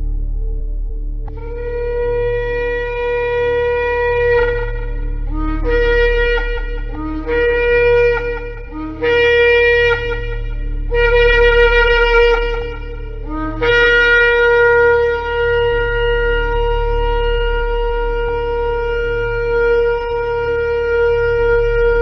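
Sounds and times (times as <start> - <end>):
steady low hum: 0.0 - 22.0
shofar blasts: 1.4 - 22.0.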